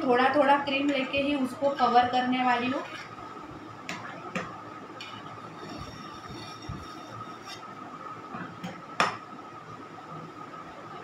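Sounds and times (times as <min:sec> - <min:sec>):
steady high-pitched hum: 0:00.0 - 0:11.0.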